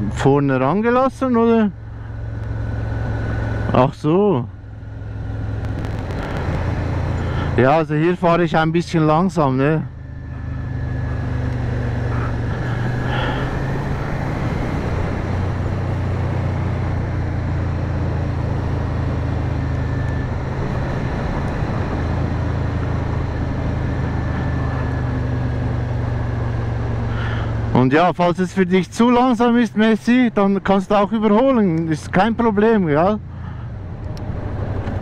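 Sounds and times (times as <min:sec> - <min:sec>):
motorcycle engine running: 0:00.0 - 0:35.0
road noise: 0:00.0 - 0:35.0
wind: 0:00.0 - 0:35.0.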